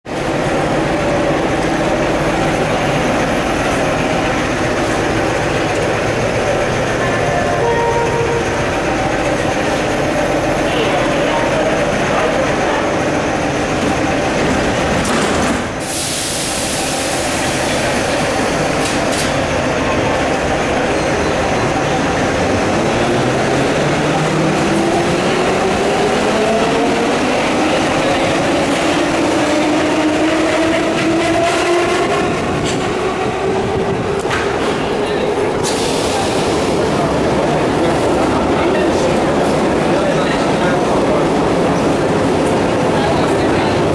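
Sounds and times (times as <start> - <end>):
train equipment humming: 0.1 - 43.9
wheels rumbling on track: 0.1 - 43.9.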